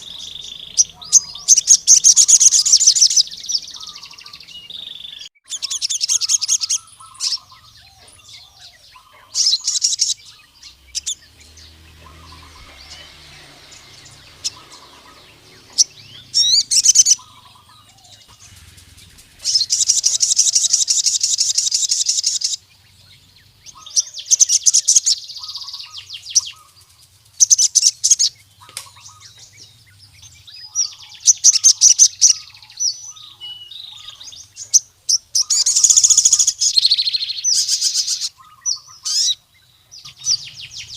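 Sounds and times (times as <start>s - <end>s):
bird high-pitched trilling: 0.0s - 39.4s, 40.0s - 40.9s
faint bird chirps: 0.0s - 40.9s.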